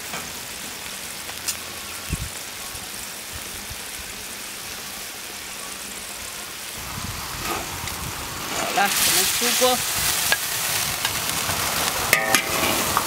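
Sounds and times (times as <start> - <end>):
sauce bubbling in a wok: 0.1 - 13.0.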